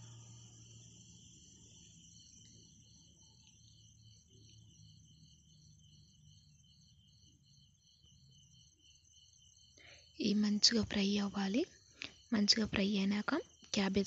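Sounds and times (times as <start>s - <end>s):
crickets chirping: 0.0s - 14.0s
faint low hum: 0.0s - 14.0s.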